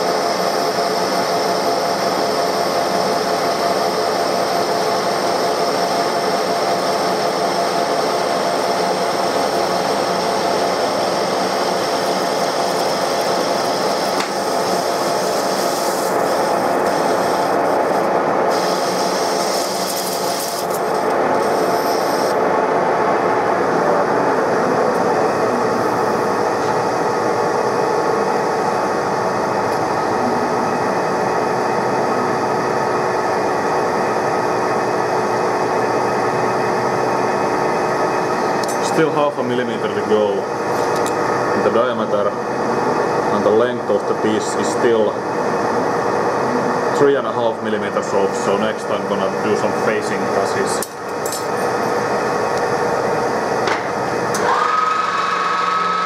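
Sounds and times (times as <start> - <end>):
lathe drive hum: 0.0 - 56.0.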